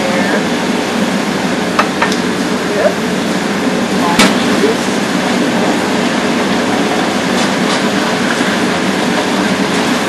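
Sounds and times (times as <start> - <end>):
exhaust hood fans roaring: 0.0 - 10.0.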